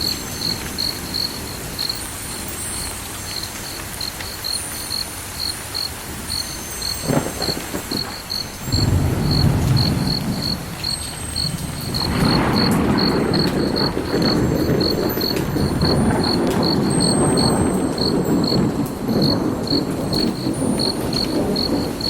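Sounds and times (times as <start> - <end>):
background hiss: 0.0 - 22.0
cricket chirping: 0.0 - 22.0.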